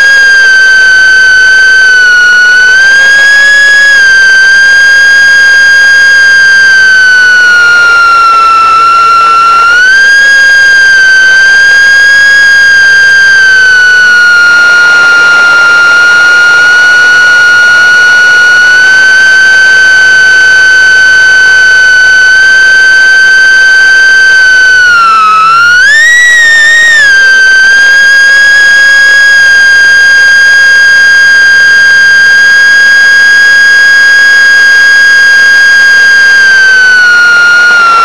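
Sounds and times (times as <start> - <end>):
drone propeller motors whining: 0.0 - 38.0.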